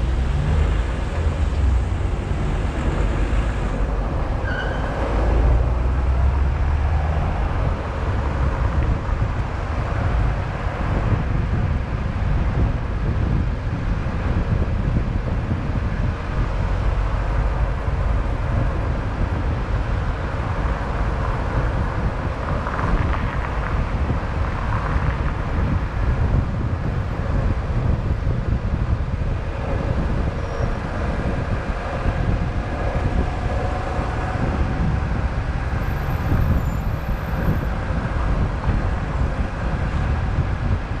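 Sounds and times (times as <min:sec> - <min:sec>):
tyres and engine rumble: 0:00.0 - 0:41.0
wind noise: 0:00.0 - 0:41.0.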